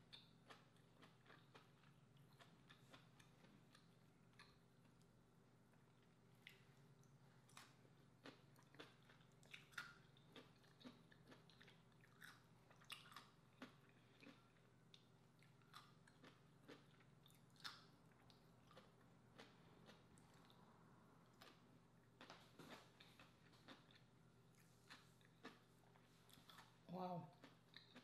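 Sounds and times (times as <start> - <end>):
chewing crisp cucumber: 0.0 - 5.1, 5.9 - 28.0.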